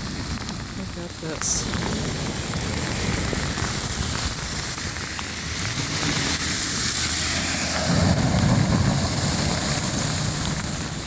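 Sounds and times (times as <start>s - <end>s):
heavy rain falling: 0.0s - 11.0s
low vehicle rumble: 0.0s - 11.0s.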